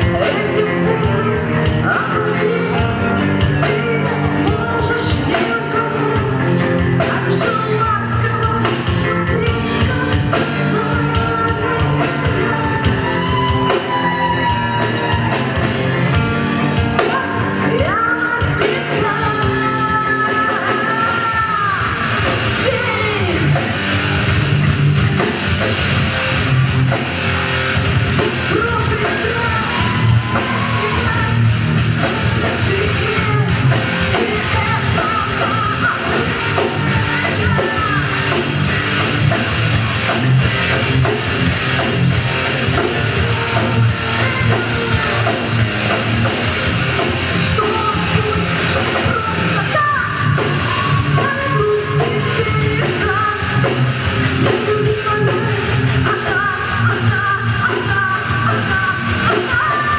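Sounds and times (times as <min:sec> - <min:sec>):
singer holding long notes: 0:00.0 - 0:24.4, 0:28.3 - 0:59.9
rock band playing live: 0:00.0 - 0:59.9.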